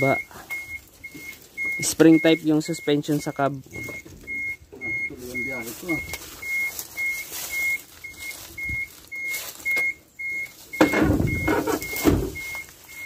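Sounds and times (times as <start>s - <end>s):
electronic warning beeper: 0.0s - 13.0s.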